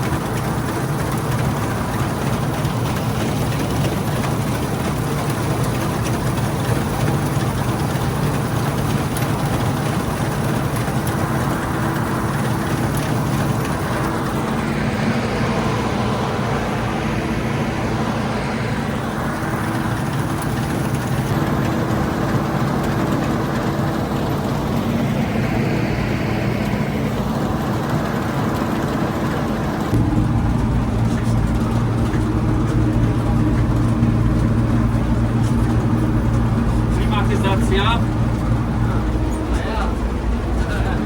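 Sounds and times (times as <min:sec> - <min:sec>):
combine harvester diesel drone: 0:00.0 - 0:41.0.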